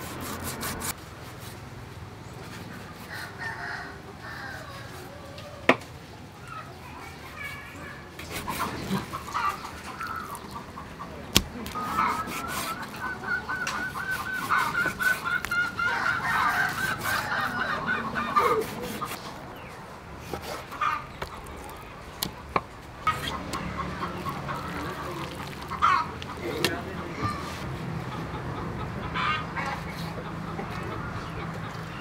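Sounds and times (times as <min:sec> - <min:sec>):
chickens clucking: 0:02.6 - 0:32.0.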